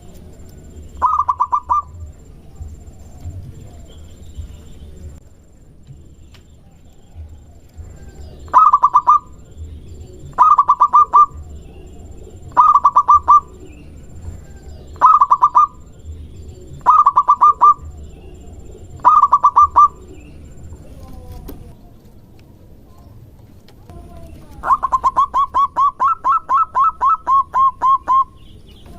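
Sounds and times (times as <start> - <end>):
dove cooing: 0.0 - 5.2, 6.1 - 22.2, 23.9 - 28.9.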